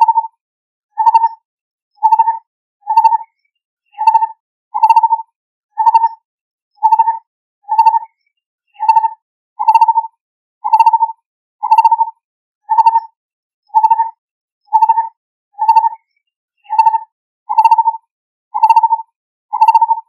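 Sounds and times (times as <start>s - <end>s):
bird calling with hollow trilled notes: 0.0s - 0.3s, 0.9s - 1.4s, 2.0s - 20.0s.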